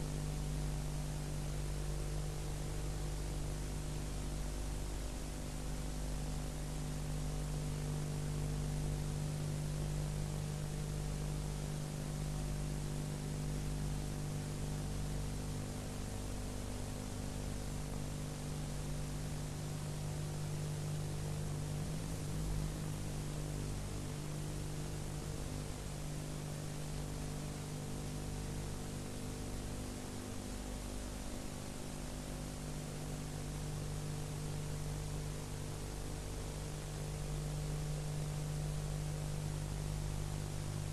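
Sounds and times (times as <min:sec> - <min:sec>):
constant hiss: 0:00.0 - 0:40.9
electrical mains hum: 0:00.0 - 0:40.9.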